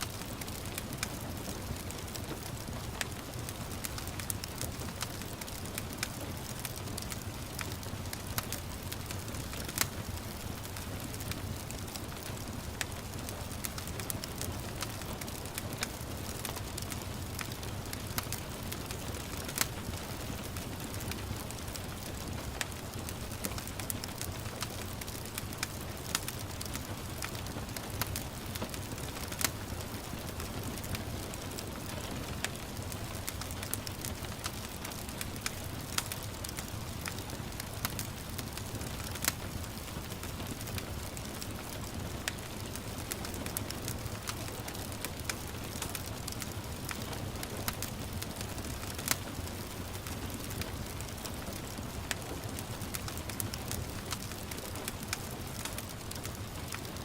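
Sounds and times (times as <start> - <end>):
gentle rain hiss: 0.0 - 57.0
wood fire crackling: 0.0 - 57.0.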